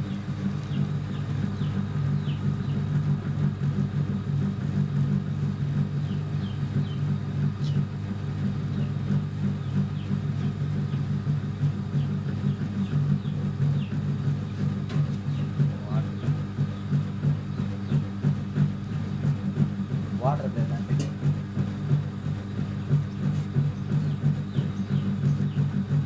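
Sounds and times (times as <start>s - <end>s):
potter's wheel humming: 0.0s - 26.0s.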